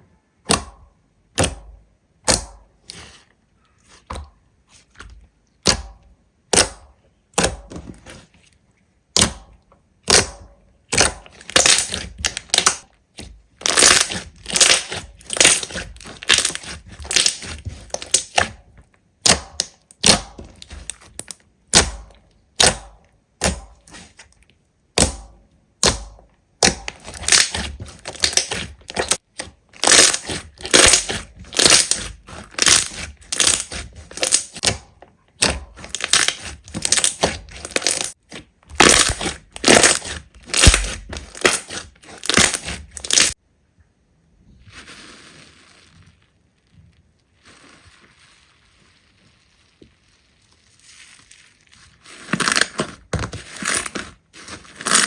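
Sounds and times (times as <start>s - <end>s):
slime squishing by hand: 0.4s - 43.4s, 44.4s - 55.0s.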